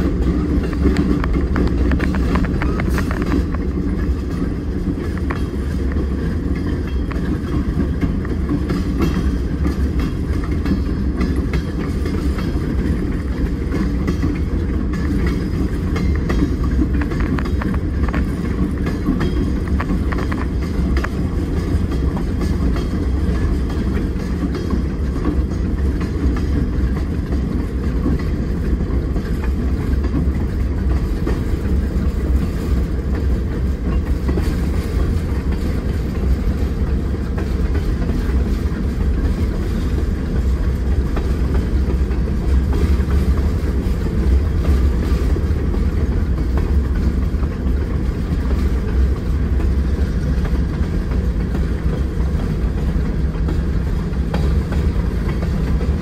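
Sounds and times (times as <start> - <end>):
freight locomotives rumbling: 0.0 - 56.0.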